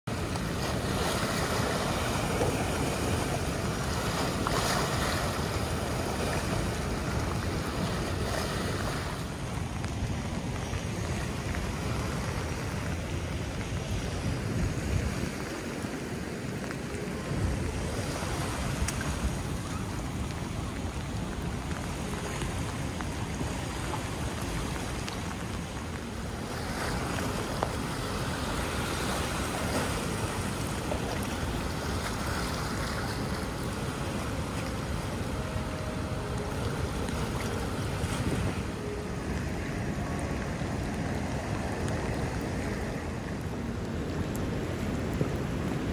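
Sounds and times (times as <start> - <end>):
small waves lapping: 0.0 - 45.9
wash of floodwater: 0.0 - 45.9
wind buffeting microphone: 0.1 - 45.9.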